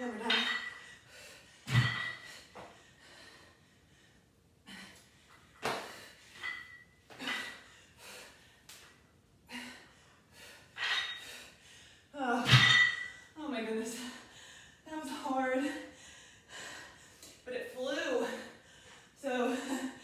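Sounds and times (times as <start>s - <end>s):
woman breathing heavily: 0.5s - 8.7s, 9.4s - 12.2s, 14.0s - 17.5s, 18.1s - 20.0s.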